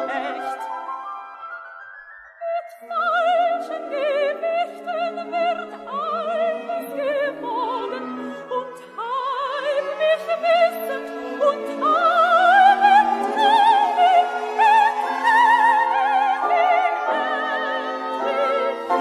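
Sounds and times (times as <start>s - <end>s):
soprano singing opera: 0.0s - 0.9s, 2.4s - 19.0s
orchestra accompaniment: 0.0s - 2.0s, 2.8s - 19.0s.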